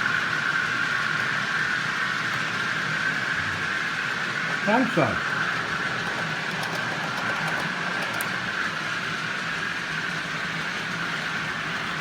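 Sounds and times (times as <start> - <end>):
model trains whirring on track: 0.0 - 12.0.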